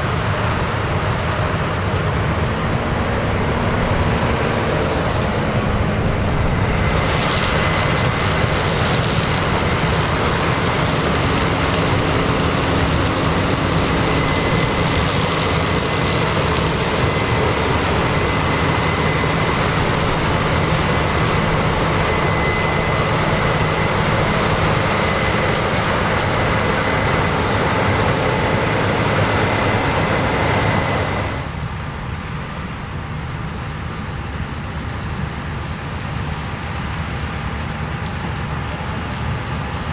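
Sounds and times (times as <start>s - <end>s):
combine harvester engine drone: 0.0s - 39.9s
high constant whine: 0.0s - 39.9s.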